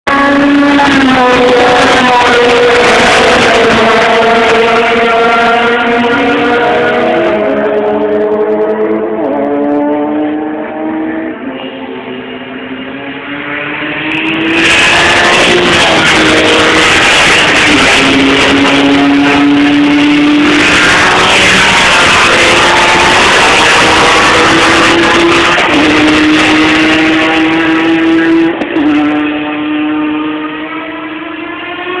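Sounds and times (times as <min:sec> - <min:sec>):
race car engines high-revving: 0:00.0 - 0:32.0.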